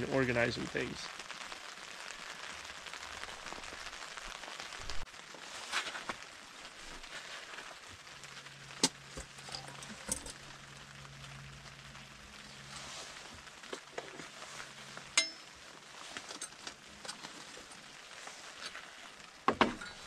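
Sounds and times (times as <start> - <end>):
rain falling on a tarp: 0.0 - 20.0.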